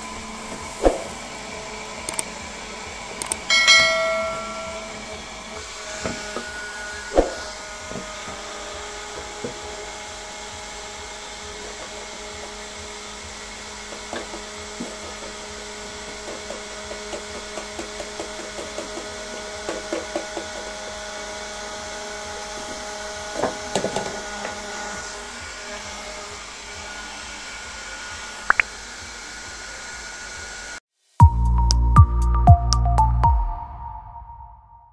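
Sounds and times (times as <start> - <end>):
vacuum cleaner motor whine: 0.0 - 30.8.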